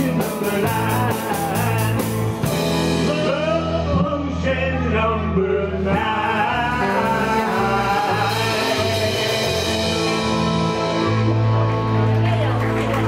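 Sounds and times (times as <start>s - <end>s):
man singing: 0.0s - 11.1s
live rock band playing: 0.0s - 13.0s.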